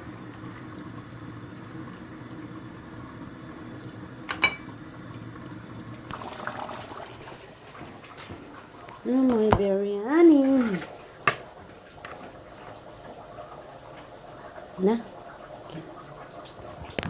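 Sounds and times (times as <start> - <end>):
pot of water simmering: 0.0 - 17.0.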